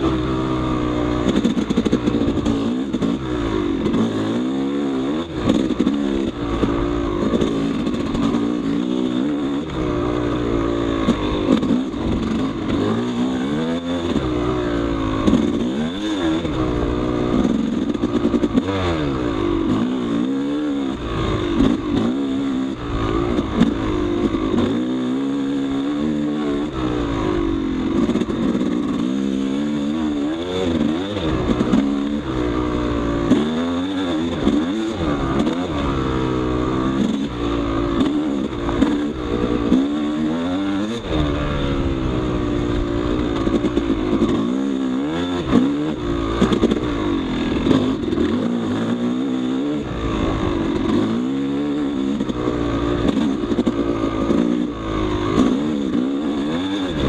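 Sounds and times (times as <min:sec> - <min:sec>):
dirt bike engine revving: 0:00.0 - 0:57.0
sharp clicks and clatter: 0:01.2 - 0:14.4, 0:15.2 - 0:19.0, 0:21.2 - 0:24.8, 0:27.8 - 0:32.5, 0:33.2 - 0:35.9, 0:36.9 - 0:41.6, 0:42.6 - 0:57.0.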